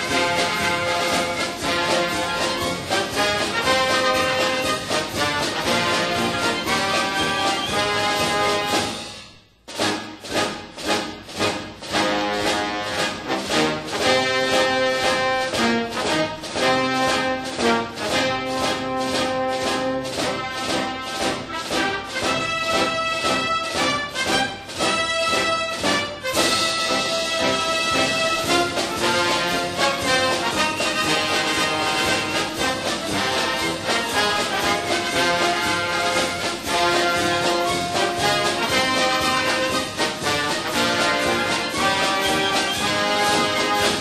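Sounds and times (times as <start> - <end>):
orchestral music with brass: 0.0 - 44.0.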